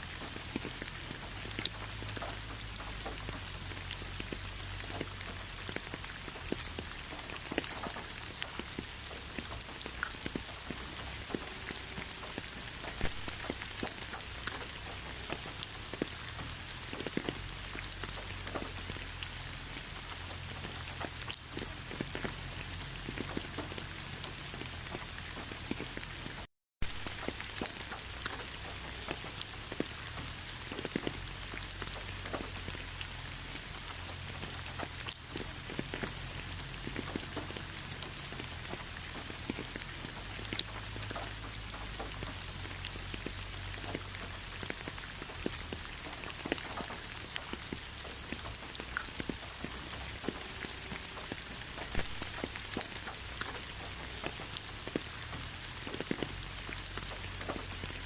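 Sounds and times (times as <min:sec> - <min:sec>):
raindrop impacts ticking: 0:00.0 - 0:58.0
steady rain falling: 0:00.0 - 0:58.0.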